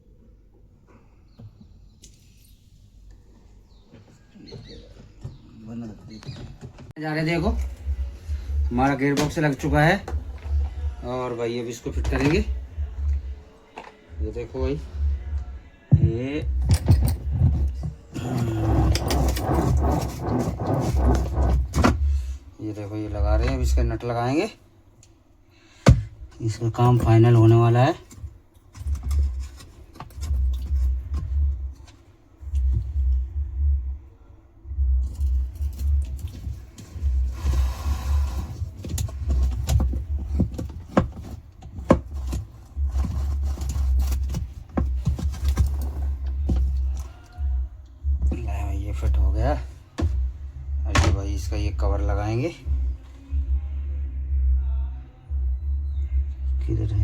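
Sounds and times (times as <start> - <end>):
steady low rumble: 7.2 - 24.4, 26.0 - 57.0.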